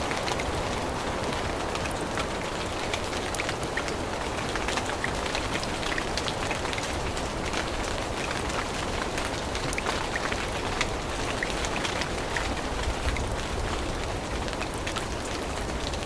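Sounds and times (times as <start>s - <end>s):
rain falling in forest: 0.0s - 16.0s
raindrops ticking: 0.0s - 16.0s.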